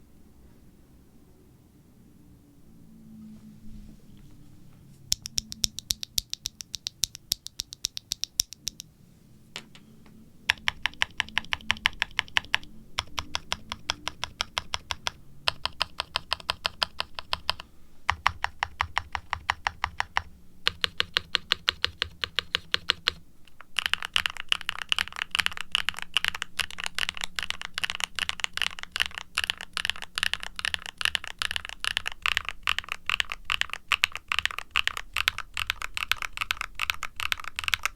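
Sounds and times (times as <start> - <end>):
mechanical keyboard typing: 5.1 - 8.9, 10.5 - 37.9.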